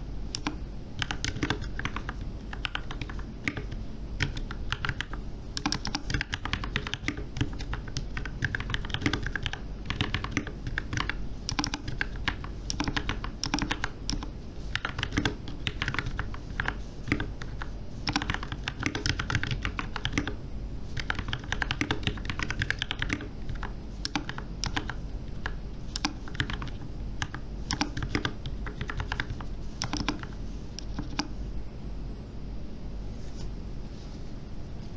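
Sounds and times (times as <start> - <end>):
low background hum: 0.0 - 34.9
mechanical keyboard typing: 0.3 - 20.4, 21.0 - 31.4.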